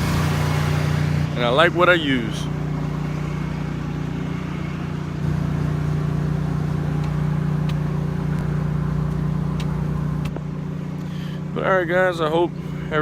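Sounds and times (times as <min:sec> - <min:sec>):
pressure washer engine running: 0:00.0 - 0:13.0.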